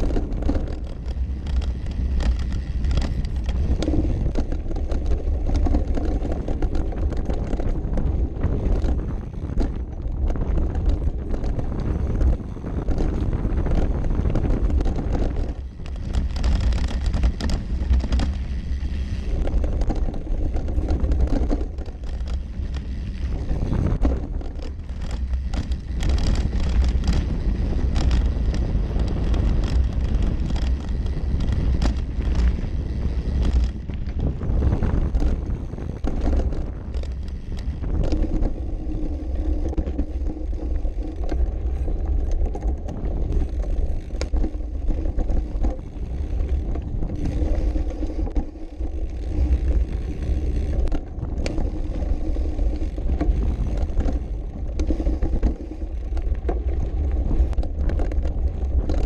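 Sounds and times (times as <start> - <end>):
bike chain and frame clattering: 0.0 - 59.0
tyres rolling over dirt: 0.0 - 59.0
wind buffeting microphone: 0.0 - 59.0.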